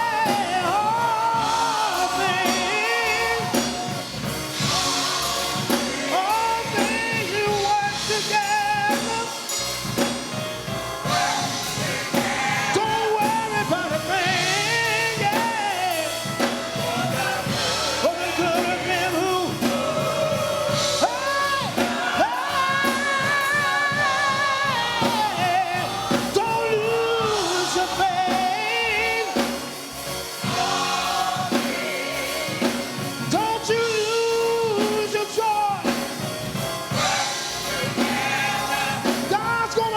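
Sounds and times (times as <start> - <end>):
instrumental accompaniment: 0.0 - 39.9
voices singing gospel song: 0.0 - 39.9.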